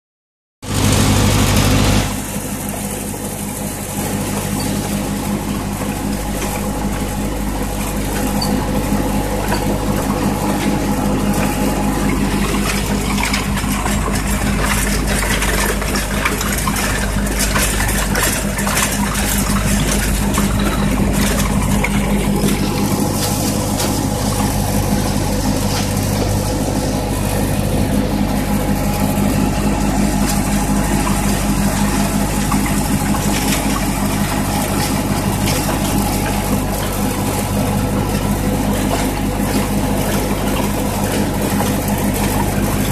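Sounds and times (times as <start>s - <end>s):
tractor engine running: 0.6s - 42.9s
gravel crunching: 2.1s - 42.9s.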